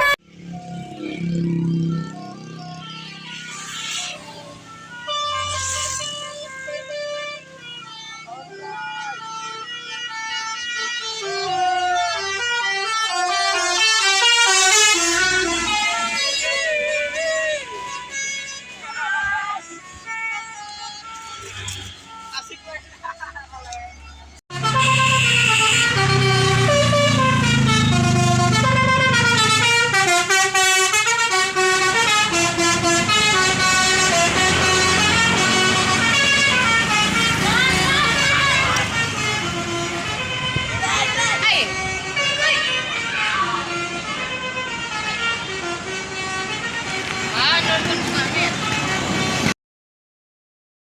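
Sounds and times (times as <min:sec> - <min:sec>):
bus musical horn playing a tune: 0:00.0 - 0:23.3, 0:23.9 - 0:49.6.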